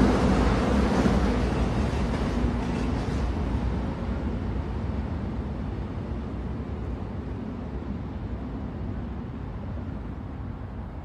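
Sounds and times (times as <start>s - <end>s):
moving train rumble: 0.0s - 11.0s.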